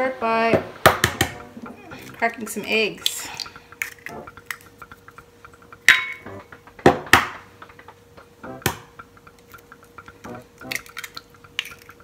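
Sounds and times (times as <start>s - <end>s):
eggshell clicking on ceramic bowl: 0.9s - 12.0s.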